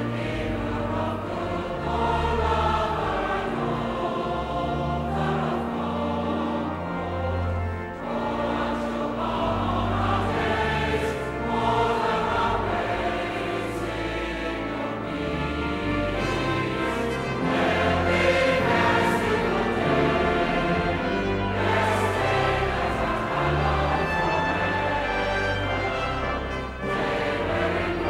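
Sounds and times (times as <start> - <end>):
mixed choir singing a hymn: 0.0 - 28.0.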